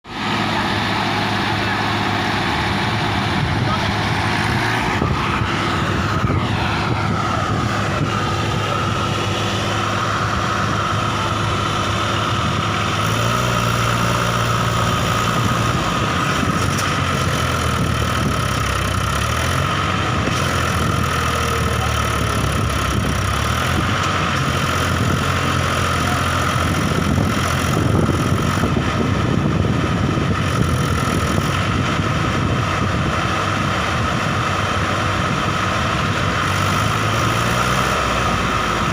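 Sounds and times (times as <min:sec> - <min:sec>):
diesel tractor engines under load: 0:00.0 - 0:38.9.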